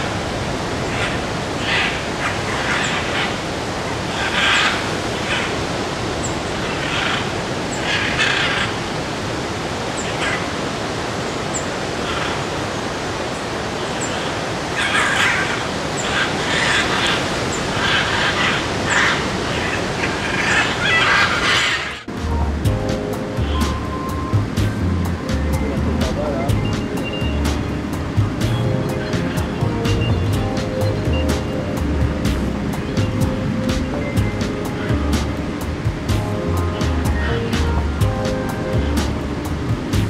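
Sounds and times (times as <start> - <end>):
steady rushing noise: 0.0 - 40.0
macaws squawking: 0.8 - 8.9, 10.0 - 10.6, 12.0 - 12.6, 13.9 - 22.1, 23.2 - 24.3, 25.2 - 39.5.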